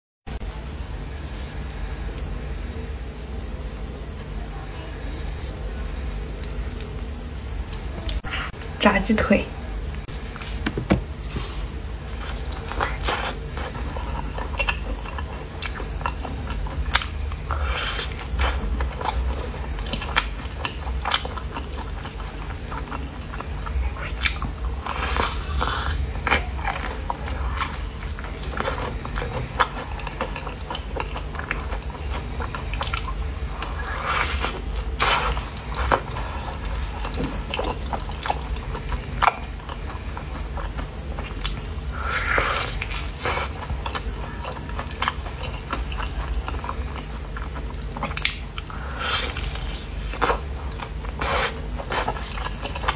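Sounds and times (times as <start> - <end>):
steady low hum: 0.3 - 52.9
crunchy chewing of fried chicken: 0.9 - 8.6, 10.0 - 52.9.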